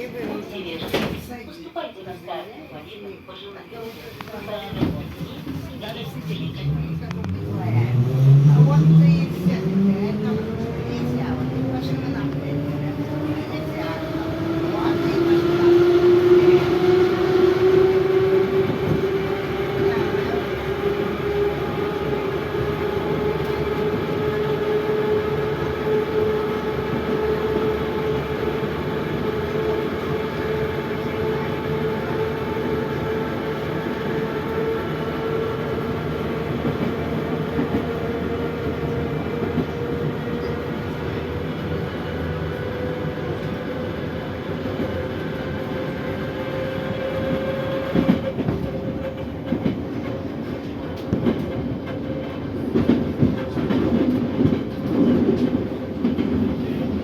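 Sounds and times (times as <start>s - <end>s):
wheels rumbling on rails: 5.1s - 57.0s.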